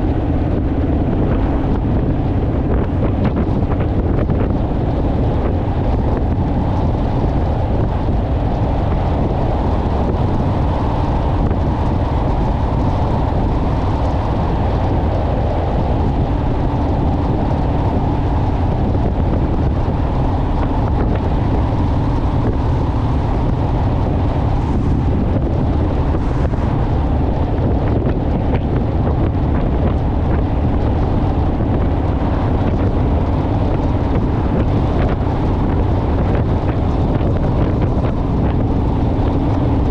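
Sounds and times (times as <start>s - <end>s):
motorcycle engine drone: 0.0s - 39.9s
wind buffeting microphone: 0.0s - 39.9s.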